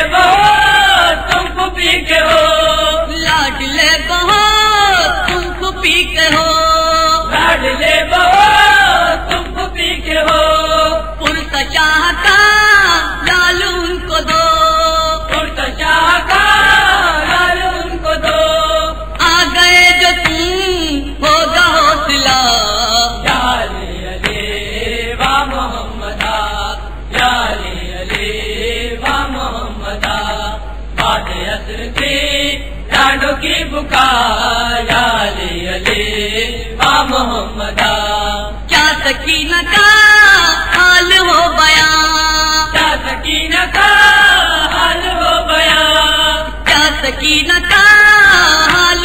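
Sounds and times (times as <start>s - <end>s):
person chanting a lament: 0.0s - 49.0s.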